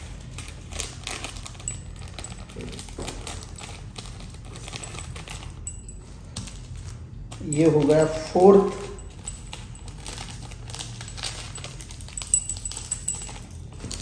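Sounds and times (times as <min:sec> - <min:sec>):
metal rings clinking: 0:00.2 - 0:14.0.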